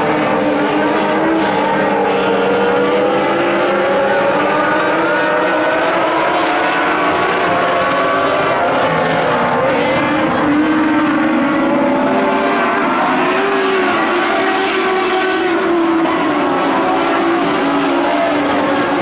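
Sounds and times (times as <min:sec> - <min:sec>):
race car engines racing: 0:00.0 - 0:19.0.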